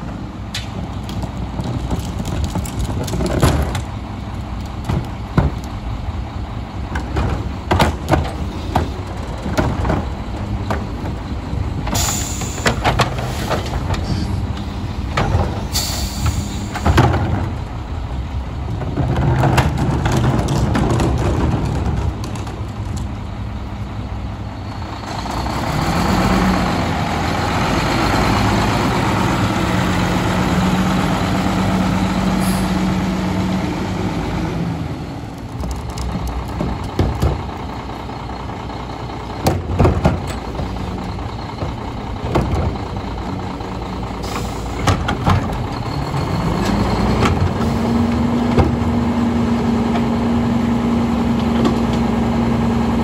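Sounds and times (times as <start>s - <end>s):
garbage truck diesel engine revving: 0.0s - 53.0s.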